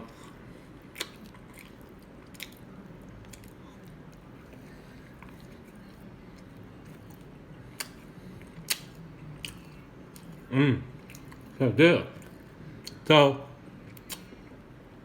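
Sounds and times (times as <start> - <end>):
close-up chewing: 0.1 - 13.0.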